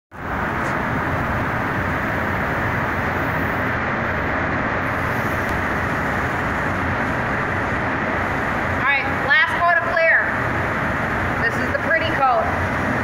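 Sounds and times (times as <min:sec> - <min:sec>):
ventilation fans rushing air: 0:00.1 - 0:13.0.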